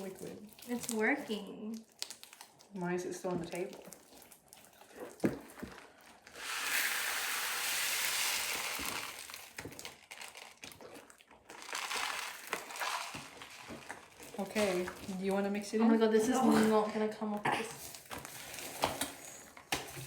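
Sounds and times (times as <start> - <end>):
slime crinkling and rustling: 0.0 - 6.6, 7.6 - 17.0, 17.7 - 20.0.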